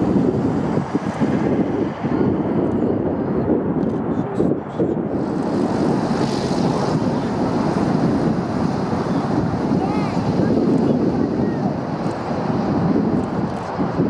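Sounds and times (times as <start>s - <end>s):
aircraft radial engines rumbling: 0.0s - 14.0s.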